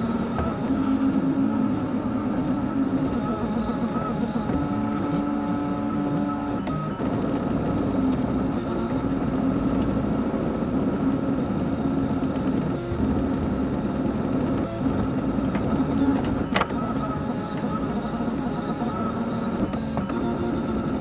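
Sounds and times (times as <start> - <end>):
small machine motor humming: 0.0 - 21.0.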